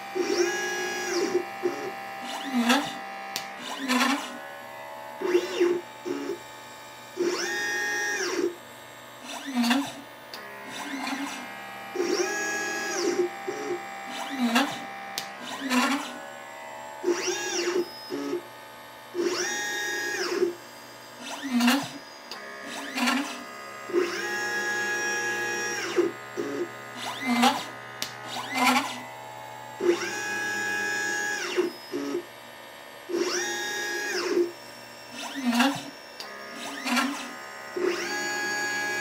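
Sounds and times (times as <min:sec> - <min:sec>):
stepper motors whining: 0:00.0 - 0:32.4, 0:33.1 - 0:39.0.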